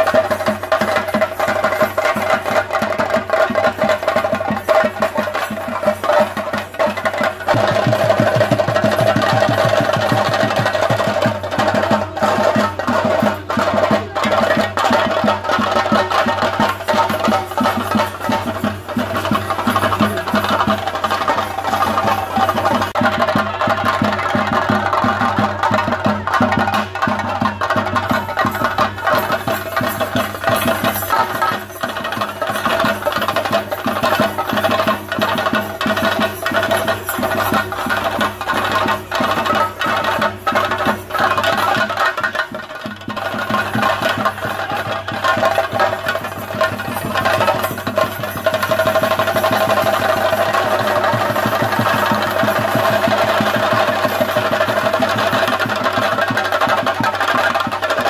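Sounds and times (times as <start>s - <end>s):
drums beating fast rhythm: 0.0s - 58.0s.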